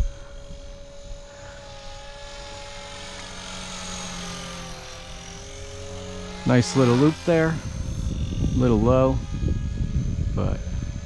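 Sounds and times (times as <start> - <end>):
rc helicopter whine: 0.0 - 11.0.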